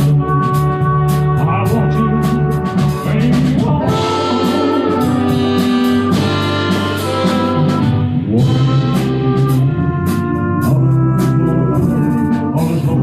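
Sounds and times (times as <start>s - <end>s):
live band playing chords: 0.0s - 13.0s.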